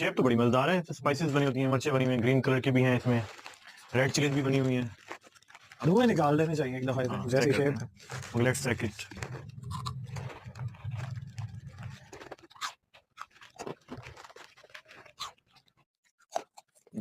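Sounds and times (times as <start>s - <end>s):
people crunching crispy snacks: 0.1s - 17.0s.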